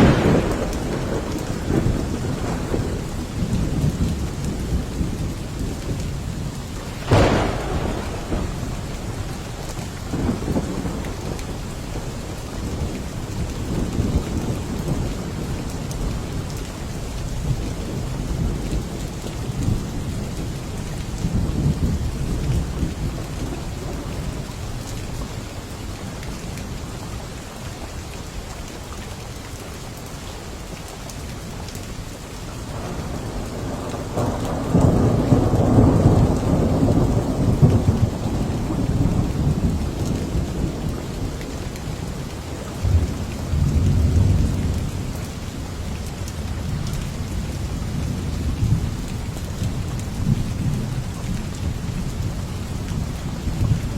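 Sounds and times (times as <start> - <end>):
rolling thunder: 0.0 - 25.2, 32.6 - 53.9
heavy rain: 0.0 - 53.9.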